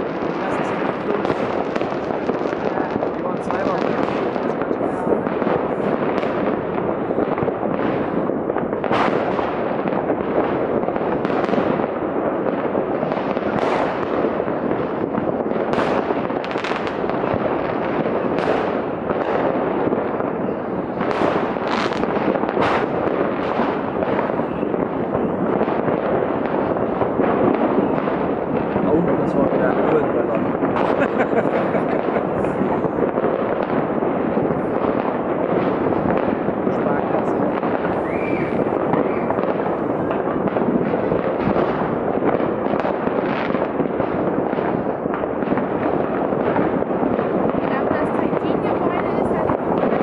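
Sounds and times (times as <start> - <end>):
distant fireworks rumble: 0.0 - 50.0
sharp firework bangs: 0.0 - 50.0.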